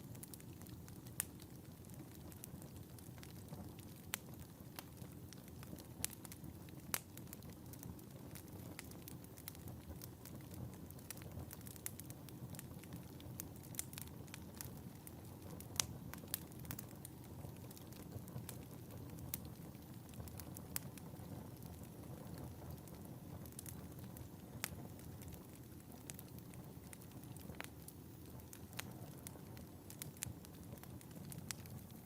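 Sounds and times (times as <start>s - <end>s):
fire crackling and snapping: 0.0s - 32.0s
low rumble of flames: 0.0s - 32.0s.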